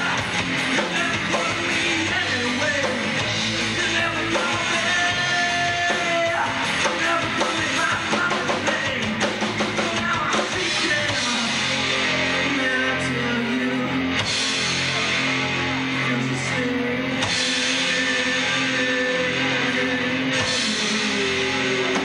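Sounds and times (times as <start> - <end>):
live rock band: 0.0 - 22.0
sustained guitar chords: 0.0 - 22.0.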